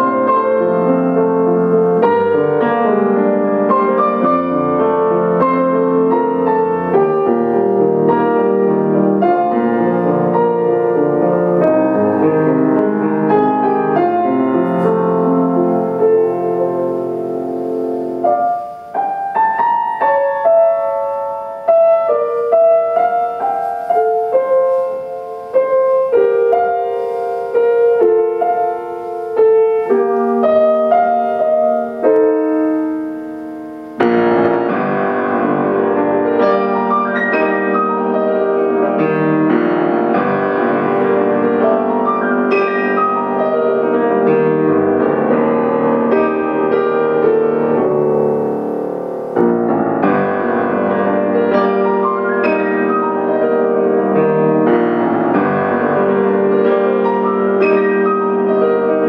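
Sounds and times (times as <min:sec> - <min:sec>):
solo piano playing: 0:00.0 - 0:59.0.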